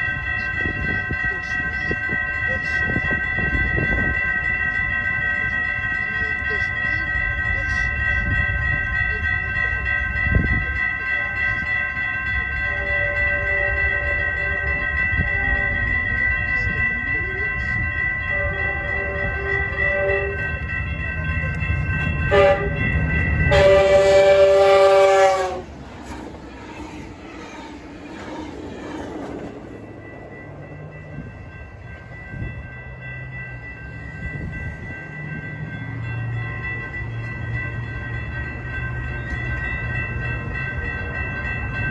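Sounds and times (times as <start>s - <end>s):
railroad crossing bell ringing: 0.0s - 41.9s
wind and traffic rumble: 0.0s - 41.9s.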